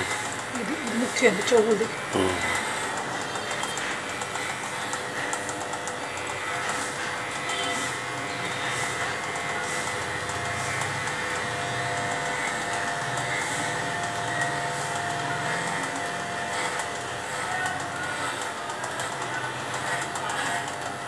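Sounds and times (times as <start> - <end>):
electric dog clipper buzzing: 0.0 - 21.0.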